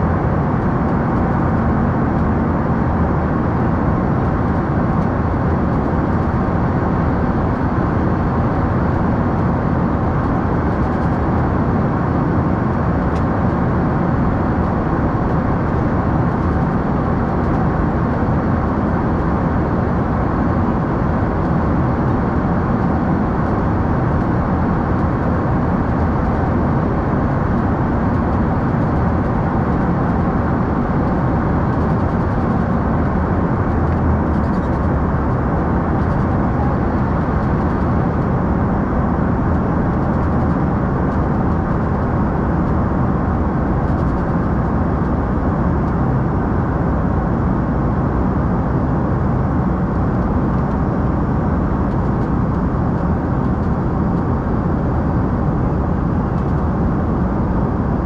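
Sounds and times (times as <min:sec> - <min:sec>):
jet cabin engine and airflow noise: 0:00.0 - 0:58.0.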